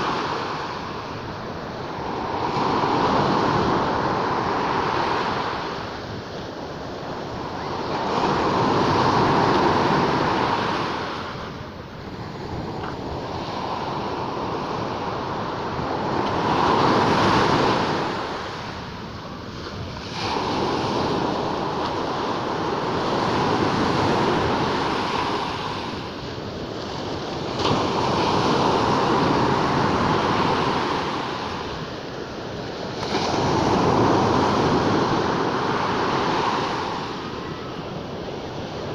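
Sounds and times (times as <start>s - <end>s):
sea waves breaking: 0.0s - 38.9s.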